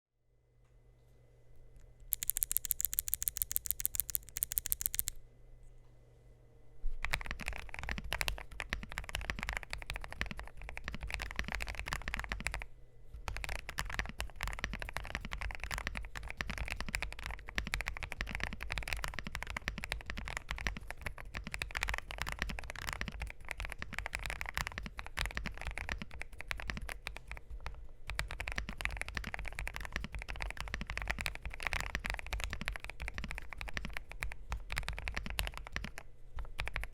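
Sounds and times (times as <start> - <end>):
mechanical keyboard typing: 2.1 - 5.2, 7.0 - 36.9.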